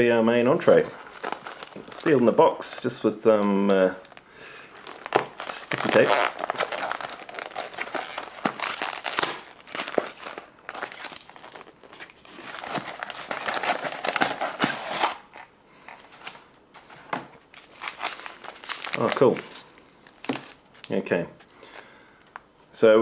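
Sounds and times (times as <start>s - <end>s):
cardboard packaging crinkling: 0.6s - 16.4s, 17.5s - 21.0s.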